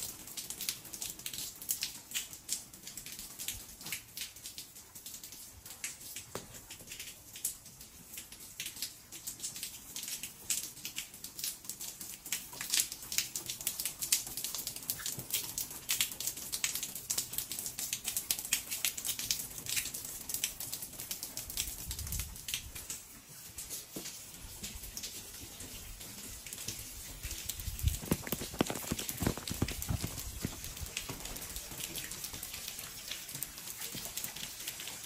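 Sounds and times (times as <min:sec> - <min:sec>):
rain pattering and dripping: 0:00.0 - 0:35.0.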